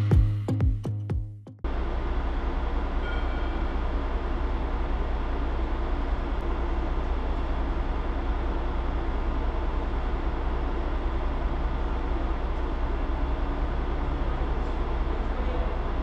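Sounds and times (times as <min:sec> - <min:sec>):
diesel truck engine idling: 0:01.7 - 0:16.0.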